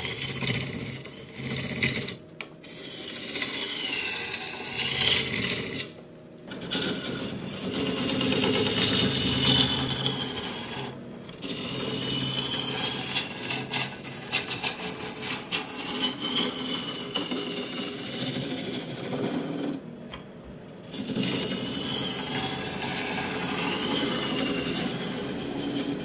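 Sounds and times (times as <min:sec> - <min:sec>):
gouge scraping spinning wood: 0:00.0 - 0:19.8, 0:20.9 - 0:26.0.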